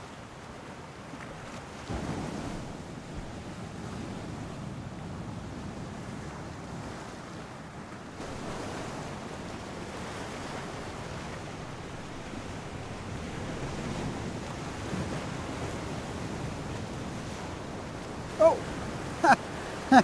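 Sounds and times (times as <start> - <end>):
sea waves washing ashore: 0.0 - 20.0
wind buffeting microphone: 1.7 - 20.0.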